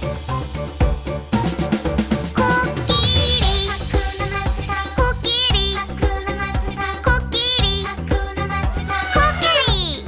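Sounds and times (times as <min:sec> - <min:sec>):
upbeat children's song: 0:00.0 - 0:10.0.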